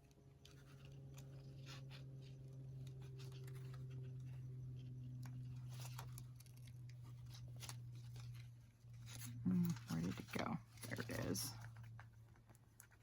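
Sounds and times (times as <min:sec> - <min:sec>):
steady low hum: 0:00.0 - 0:13.0
paper rustle: 0:00.4 - 0:13.0.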